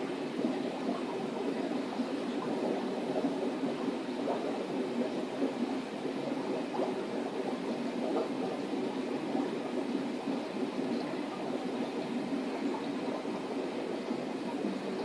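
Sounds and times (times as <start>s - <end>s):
aquarium filter bubbling water: 0.0s - 15.0s.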